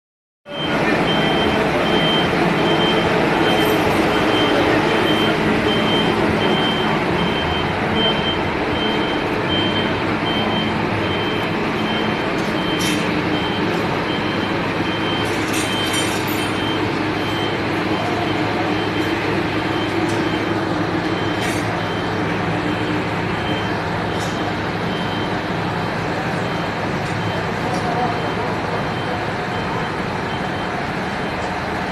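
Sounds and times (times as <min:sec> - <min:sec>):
diesel engine running: 0:00.5 - 0:31.9
reversing alarm beeping: 0:00.5 - 0:31.9.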